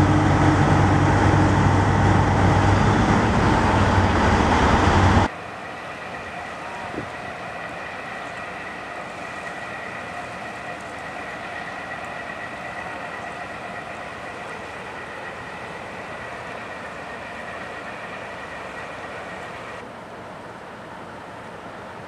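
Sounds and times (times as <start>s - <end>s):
churning propeller wash: 0.0s - 22.0s
diesel engines droning: 0.0s - 22.0s.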